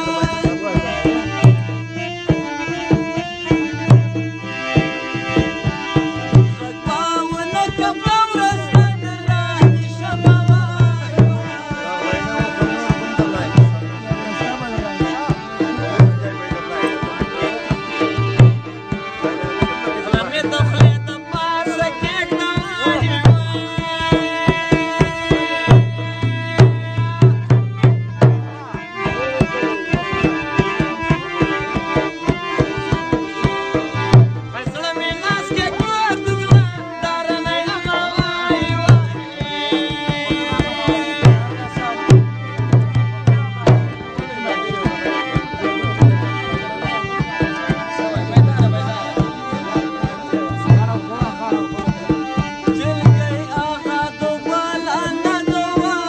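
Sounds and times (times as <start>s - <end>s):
dhol drum beating: 0.0s - 56.0s
harmonium playing chords and melody: 0.0s - 56.0s.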